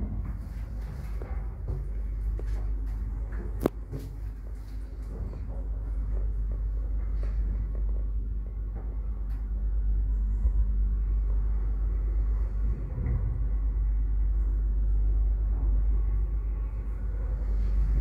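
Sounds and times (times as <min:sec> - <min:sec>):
elevator rumbling: 0:00.0 - 0:18.0.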